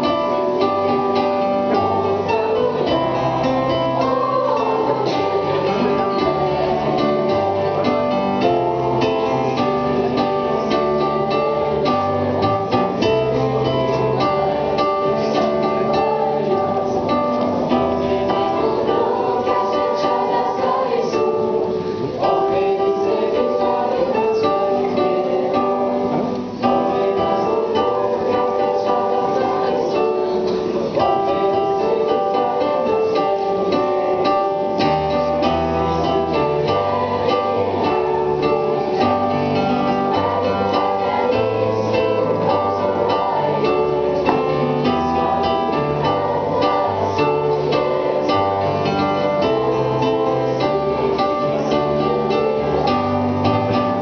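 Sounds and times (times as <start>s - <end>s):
electronic keyboard playing: 0.0s - 54.0s.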